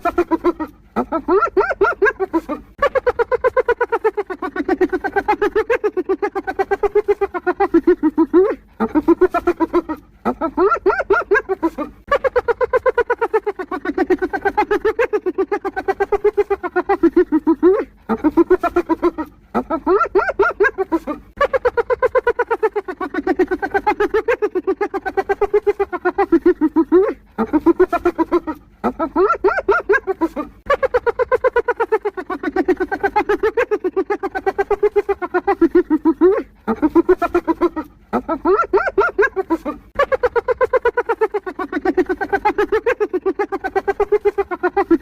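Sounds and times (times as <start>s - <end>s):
hyena giggling: 0.0s - 45.0s.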